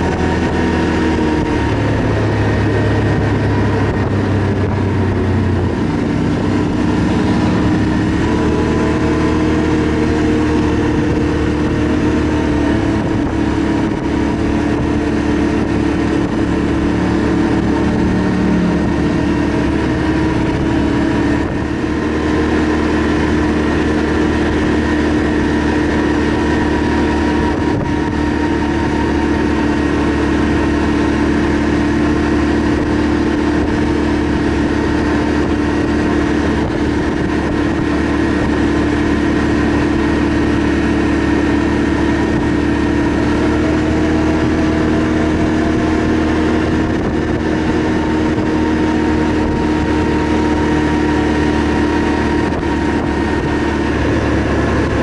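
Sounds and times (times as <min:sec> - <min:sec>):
atv engine running: 0:00.0 - 0:55.0
constant rushing noise: 0:00.0 - 0:55.0.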